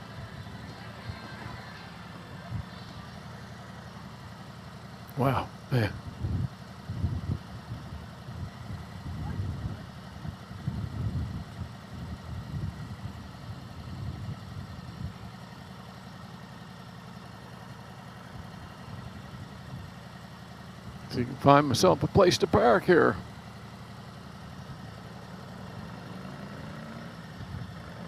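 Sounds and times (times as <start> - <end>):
motorcycle engine low rumble: 0.0 - 28.0.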